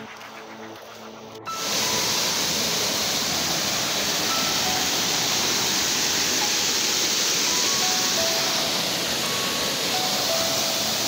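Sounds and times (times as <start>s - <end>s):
stream rushing over rocks: 1.5s - 11.0s.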